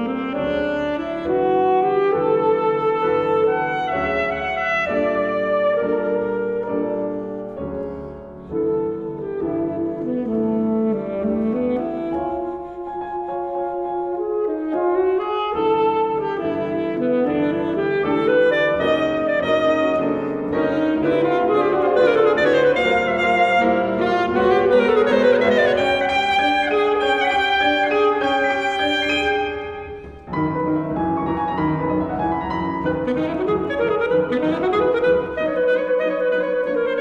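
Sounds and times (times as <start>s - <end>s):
alto saxophone: 0.0s - 37.0s
grand piano accompaniment: 0.0s - 37.0s.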